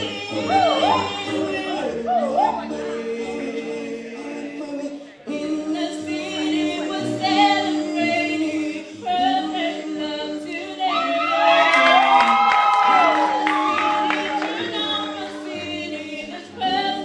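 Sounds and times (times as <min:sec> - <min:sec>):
mixed choir singing in harmony: 0:00.0 - 0:17.0.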